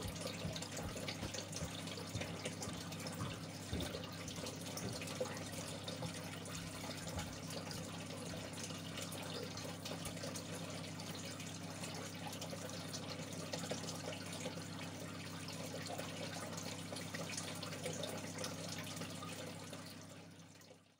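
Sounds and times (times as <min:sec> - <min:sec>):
pump electric hum: 0:00.0 - 0:20.9
water trickling and splashing: 0:00.0 - 0:20.9.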